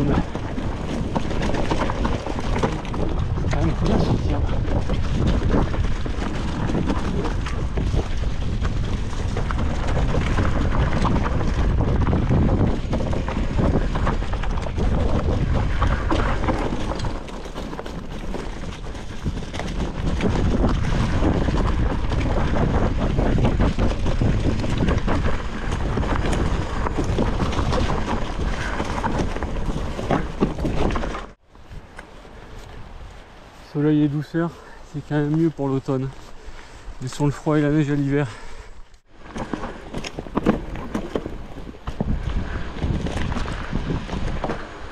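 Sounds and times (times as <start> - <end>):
bike clattering over bumps: 0.0 - 31.4, 38.2 - 44.9
tyres on dirt and leaves: 0.0 - 44.9
wind rushing on microphone: 0.0 - 44.9.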